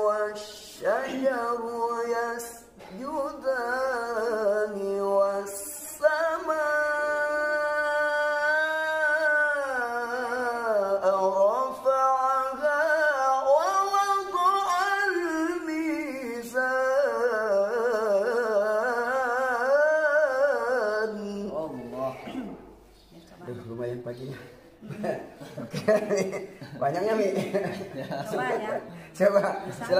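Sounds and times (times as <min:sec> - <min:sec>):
man reciting melodically: 0:00.0 - 0:29.9.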